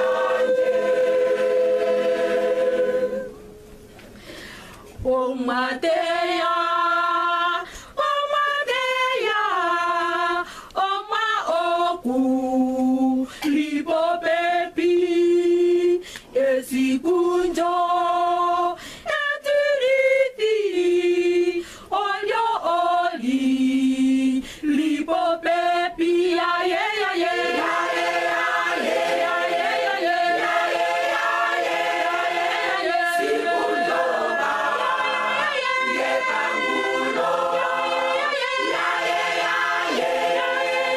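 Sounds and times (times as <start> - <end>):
women's choir singing: 0.0 - 3.5, 5.0 - 40.9.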